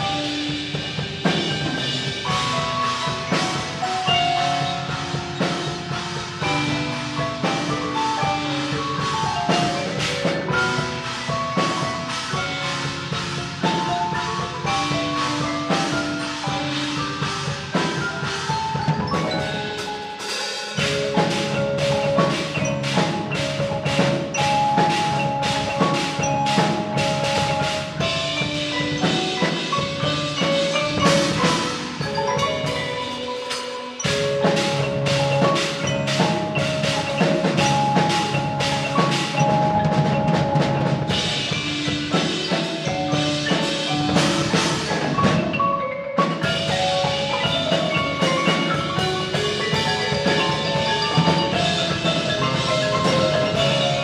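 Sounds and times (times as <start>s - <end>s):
percussion ensemble playing: 0.0s - 54.0s.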